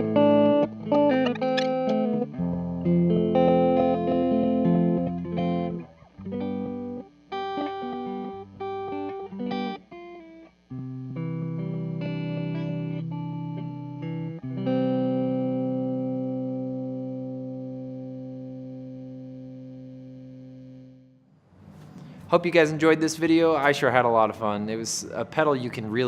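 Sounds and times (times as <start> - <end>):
electric guitar with delay effect: 0.0 - 23.6.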